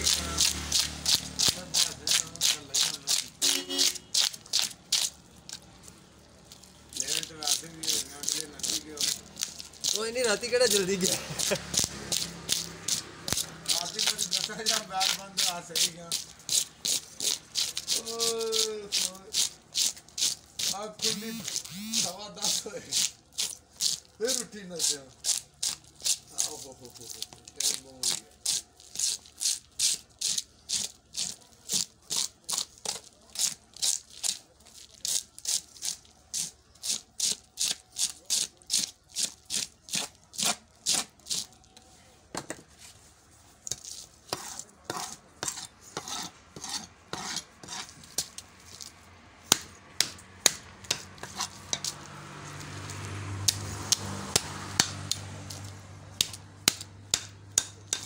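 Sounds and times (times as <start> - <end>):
blade scraping fish scales: 0.0 - 5.6, 6.5 - 41.6, 43.6 - 49.0, 50.8 - 54.4.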